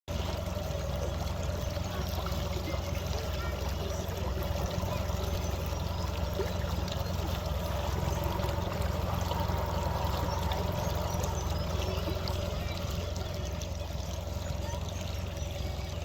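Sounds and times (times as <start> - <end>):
water trickling and lapping: 0.0 - 16.0
scattered drips and ticks: 0.1 - 16.0
steady low rumble: 0.1 - 16.0.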